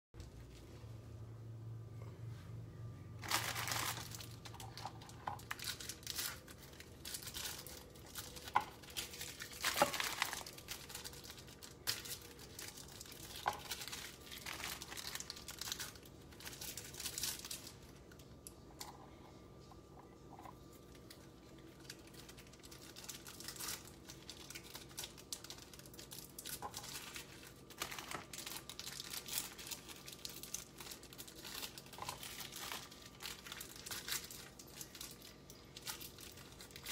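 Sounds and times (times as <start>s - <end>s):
packaging crinkling: 3.2s - 36.9s.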